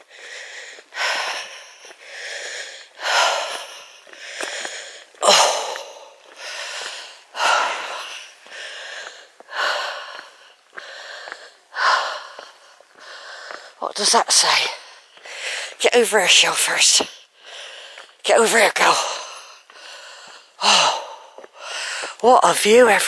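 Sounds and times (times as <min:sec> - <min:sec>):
woman breathing heavily: 0:00.0 - 0:13.8, 0:14.7 - 0:15.8, 0:17.2 - 0:18.2, 0:18.9 - 0:22.2.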